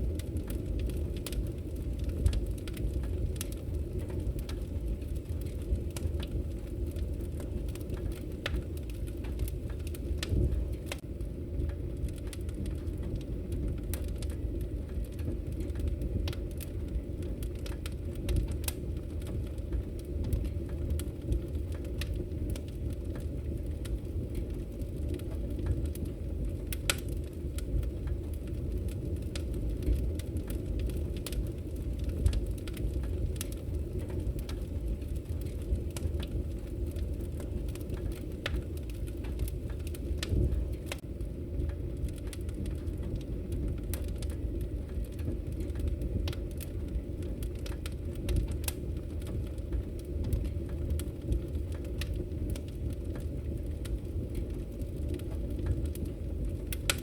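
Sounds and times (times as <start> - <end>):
fire flames rumbling: 0.0 - 57.0
logs crackling and popping: 0.0 - 57.0.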